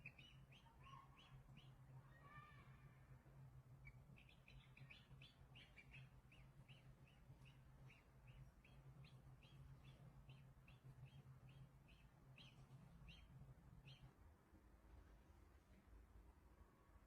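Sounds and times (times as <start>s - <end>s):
faint bird chirping: 0.0s - 14.2s
low steady hum: 0.0s - 17.0s.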